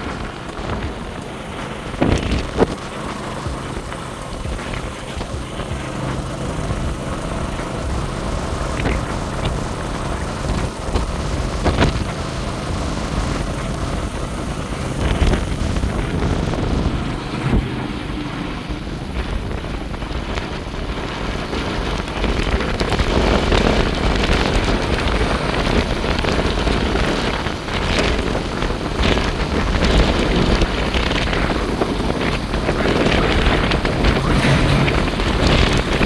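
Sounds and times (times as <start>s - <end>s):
small motor vehicle running: 0.0s - 36.0s
wind buffeting microphone: 0.0s - 36.0s.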